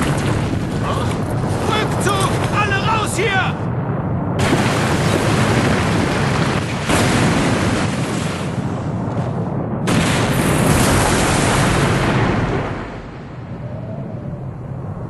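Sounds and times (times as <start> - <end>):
building collapsing rumbling crash: 0.0 - 15.0.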